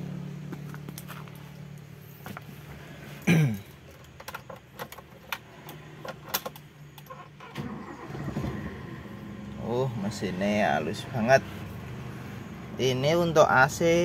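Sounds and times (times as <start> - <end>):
car engine starting and running: 0.0 - 14.0.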